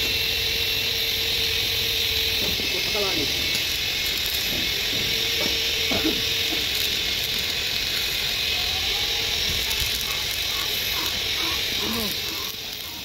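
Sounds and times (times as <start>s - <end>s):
welding arc crackling and hissing: 0.0s - 13.0s.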